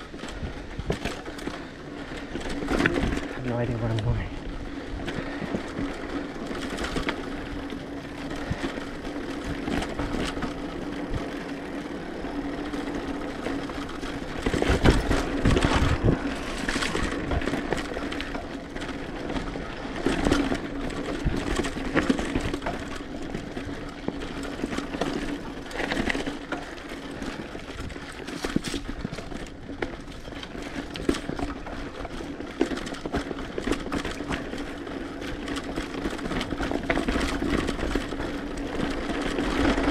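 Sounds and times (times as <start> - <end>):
bike rattling over dirt trail: 0.0 - 39.9.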